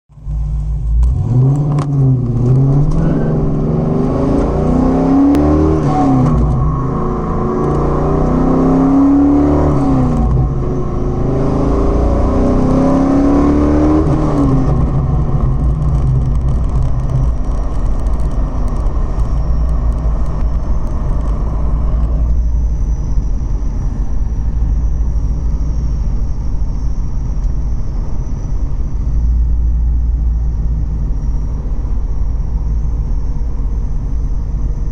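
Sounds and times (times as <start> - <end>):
car engine accelerating: 0.1 - 34.9
high-pitched whine: 0.1 - 34.9.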